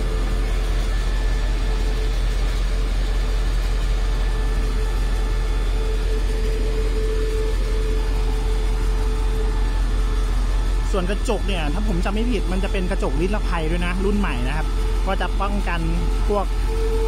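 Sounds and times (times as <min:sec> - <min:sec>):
locomotive diesel engine idling: 0:00.0 - 0:17.0
steady hum: 0:00.0 - 0:17.0.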